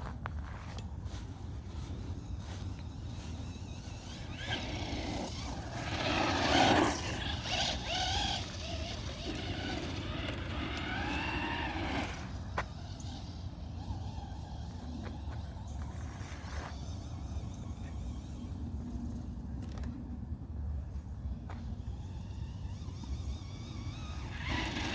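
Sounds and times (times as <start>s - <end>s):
electric motor whining: 1.1s - 19.8s, 21.5s - 24.9s.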